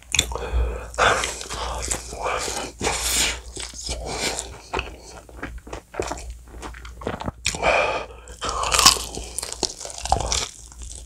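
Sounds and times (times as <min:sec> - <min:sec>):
chewing fried chicken: 0:00.1 - 0:11.0.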